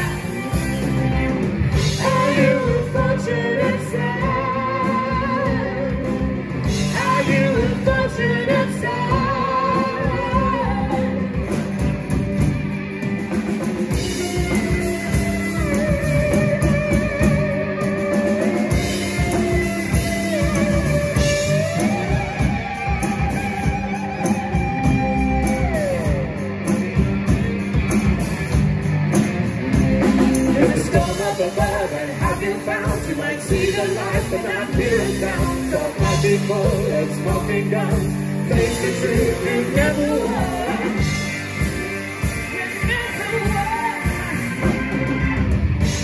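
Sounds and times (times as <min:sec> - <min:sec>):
drum kit: 0:00.0 - 0:46.0
electric guitar lead: 0:00.0 - 0:46.0
rhythm guitar: 0:00.0 - 0:46.0.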